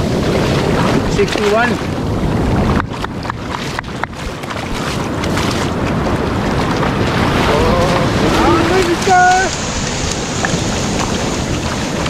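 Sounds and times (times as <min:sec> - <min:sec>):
surf washing over sand: 0:00.0 - 0:12.0
wind buffeting microphone: 0:00.0 - 0:12.0.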